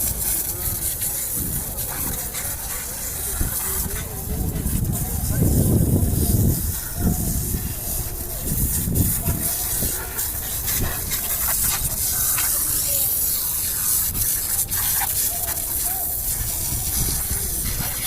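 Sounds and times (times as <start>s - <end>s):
water spraying from pump: 0.0s - 18.0s.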